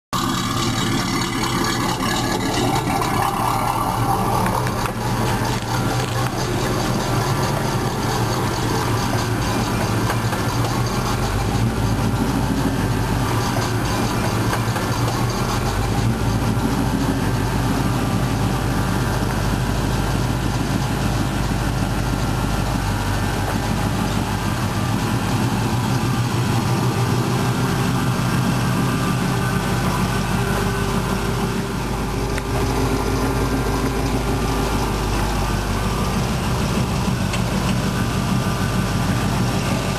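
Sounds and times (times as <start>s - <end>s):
pickup truck engine idling: 0.1s - 39.9s.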